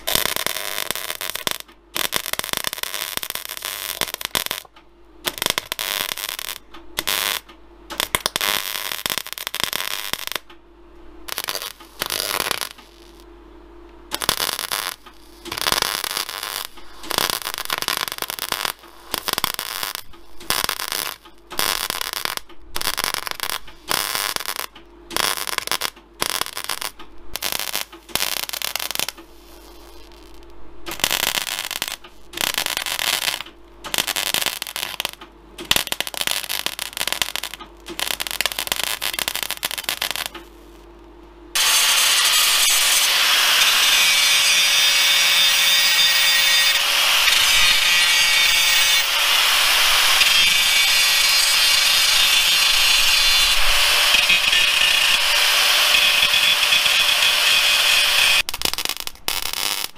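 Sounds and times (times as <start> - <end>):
welder arc crackling: 0.0 - 10.6, 11.3 - 13.3, 14.1 - 40.9, 41.6 - 59.9
steady welder hum: 0.0 - 59.9.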